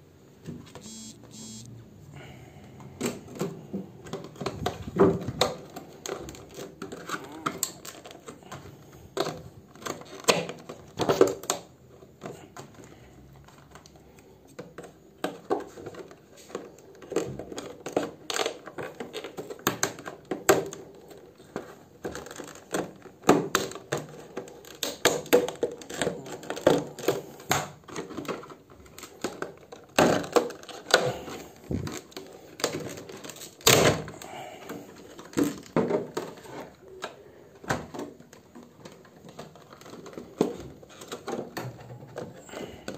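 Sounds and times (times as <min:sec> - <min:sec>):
hard plastic packaging crackling: 0:04.0 - 0:42.9.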